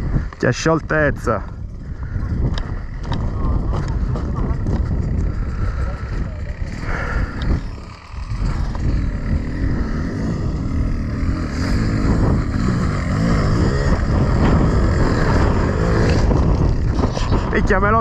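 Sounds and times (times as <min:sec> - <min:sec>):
two-stroke motorcycle engine revving: 0:00.0 - 0:18.0.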